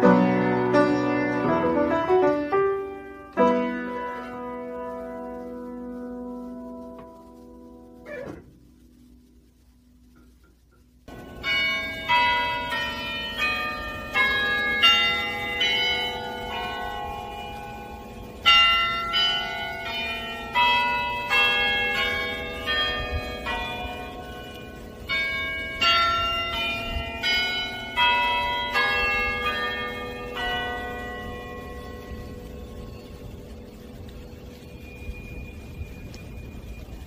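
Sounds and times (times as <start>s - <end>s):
church bells ringing a peal: 0.0s - 8.0s, 11.1s - 37.0s.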